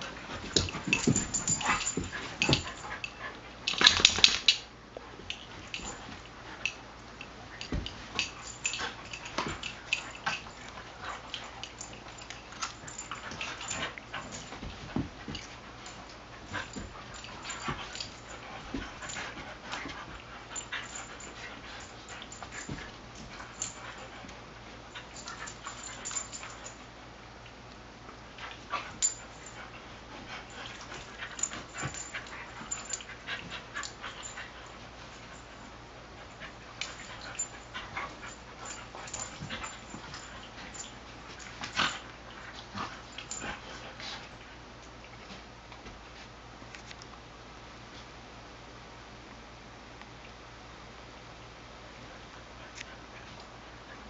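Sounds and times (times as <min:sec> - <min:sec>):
dogs play-fighting: 0:00.0 - 0:48.3, 0:51.4 - 0:54.0.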